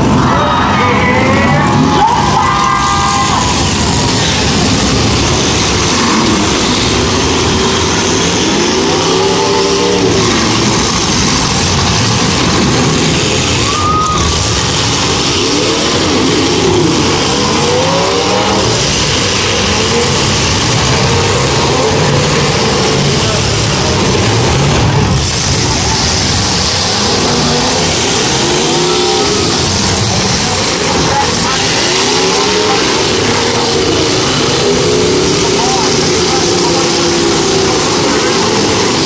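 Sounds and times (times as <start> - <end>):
car engines revving: 0.0 - 39.0
grandstand crowd din: 0.0 - 39.0.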